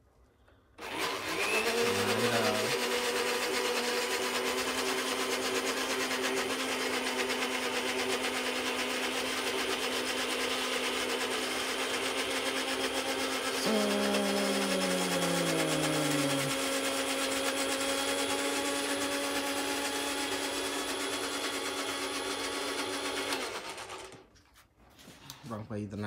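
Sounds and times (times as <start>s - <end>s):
blender motor grinding: 0.8s - 24.3s.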